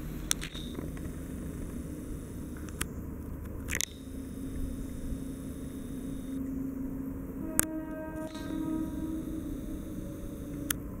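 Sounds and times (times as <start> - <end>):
sharp clicks: 0.0 - 6.5, 7.5 - 10.9
faint steady hum: 0.0 - 11.0
train rumble: 0.0 - 11.0.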